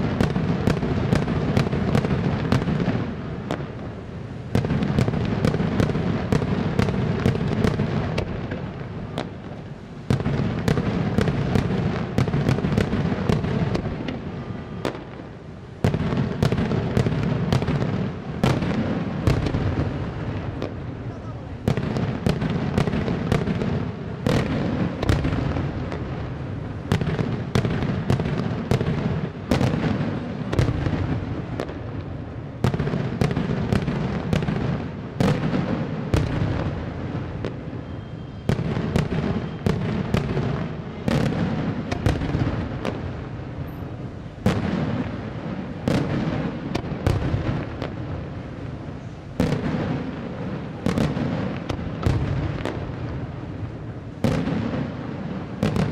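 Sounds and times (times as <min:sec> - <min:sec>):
fireworks bursting with bangs: 0:00.0 - 0:55.9.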